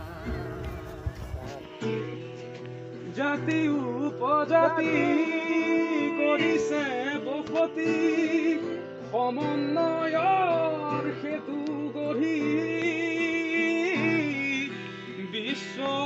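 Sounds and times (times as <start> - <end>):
acoustic guitar: 0.0 - 16.0
man singing: 0.0 - 16.0.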